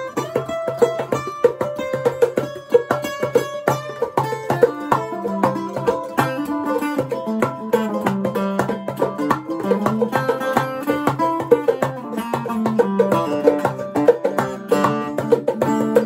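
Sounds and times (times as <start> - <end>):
string band music: 0.0 - 16.0.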